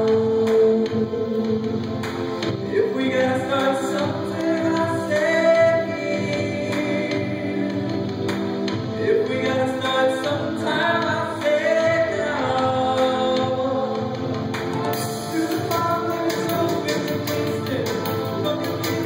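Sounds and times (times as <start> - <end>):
instrumental accompaniment: 0.0 - 19.0
man singing into microphone: 0.0 - 19.0.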